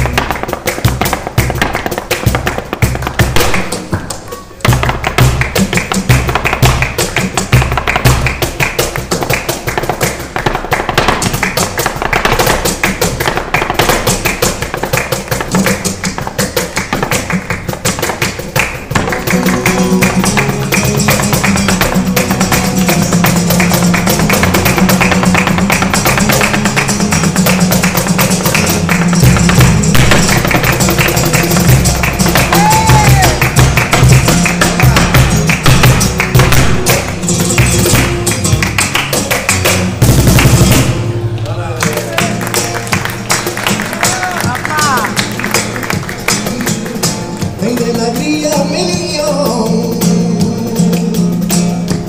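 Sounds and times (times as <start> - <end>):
acoustic guitar: 0.0 - 52.0
flamenco footwork on a board: 0.0 - 52.0.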